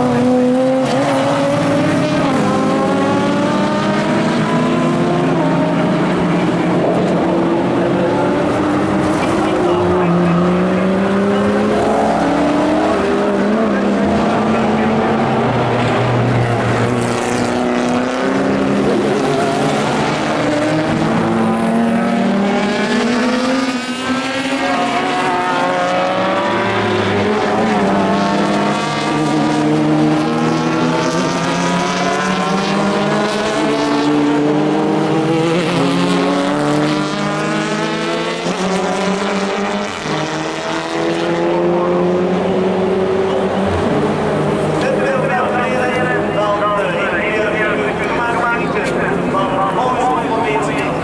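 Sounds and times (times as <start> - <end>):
racing car engines accelerating past: 0.0 - 51.0.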